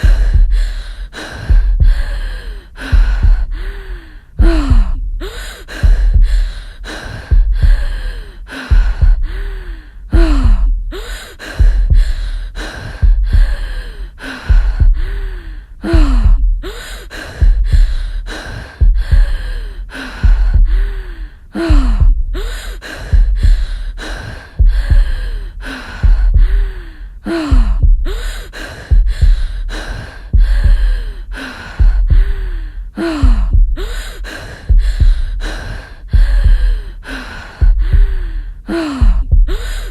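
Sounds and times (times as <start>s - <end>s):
person breathing heavily: 0.0s - 39.9s.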